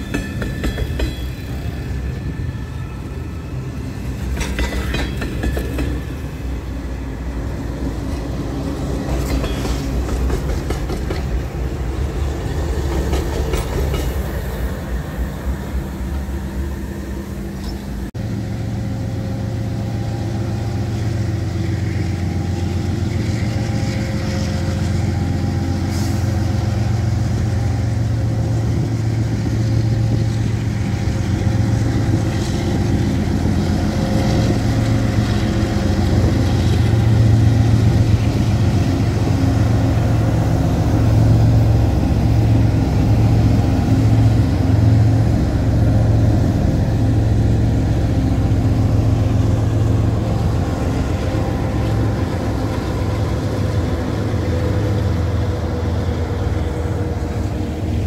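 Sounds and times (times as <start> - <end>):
diesel locomotives passing: 0.0 - 58.0.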